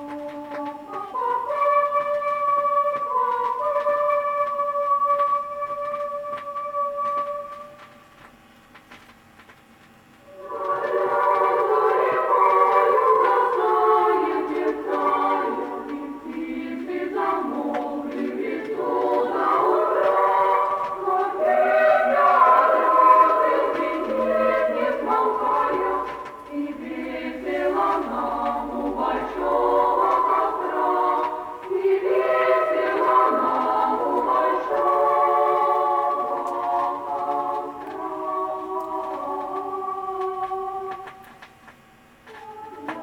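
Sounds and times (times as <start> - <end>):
choir singing from vinyl record: 0.0 - 9.5, 10.2 - 43.0.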